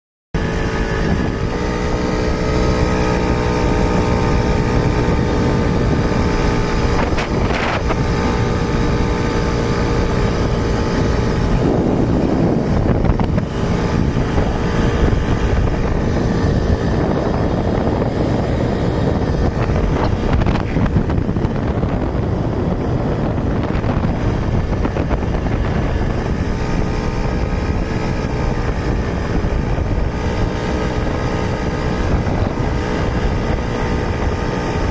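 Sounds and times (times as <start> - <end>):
motorcycle engine running: 0.4 - 34.9
wind rumbling on microphone: 0.4 - 34.9.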